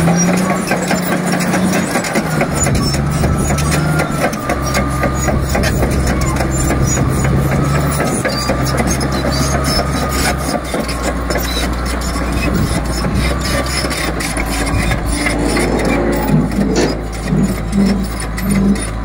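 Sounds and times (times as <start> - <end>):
bulldozer diesel engine: 0.0 - 19.0
track links clattering and squeaking: 0.0 - 19.0.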